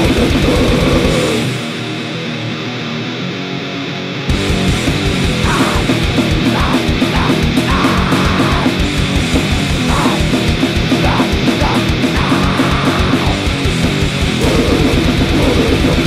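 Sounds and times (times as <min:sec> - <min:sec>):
fast drumming: 0:00.0 - 0:01.5, 0:04.3 - 0:16.0
distorted guitars: 0:00.0 - 0:16.0.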